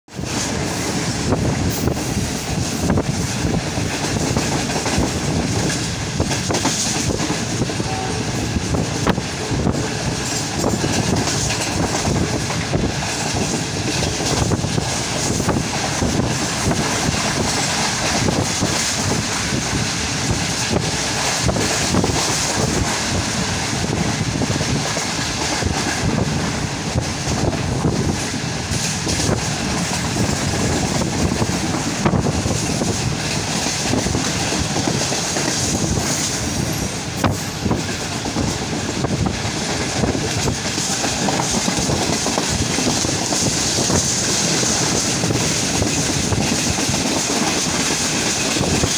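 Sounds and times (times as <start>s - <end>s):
rushing air: 0.1s - 48.9s
train wheels rumbling on rails: 0.1s - 48.9s.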